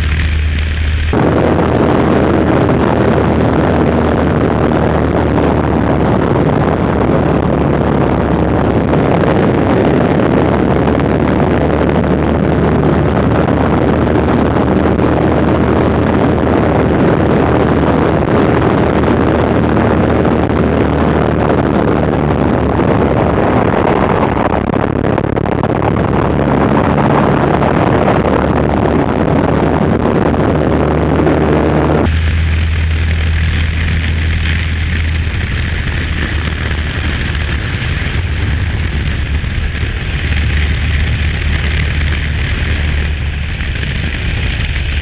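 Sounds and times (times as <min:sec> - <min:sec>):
aircraft engine running: 0:00.0 - 0:45.0
wind rush: 0:00.0 - 0:45.0.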